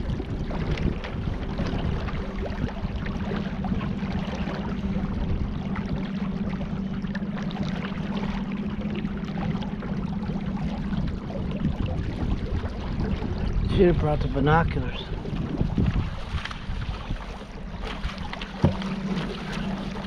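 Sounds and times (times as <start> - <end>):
steady low hum: 0.0 - 20.0
water splashing around boat: 0.0 - 20.0.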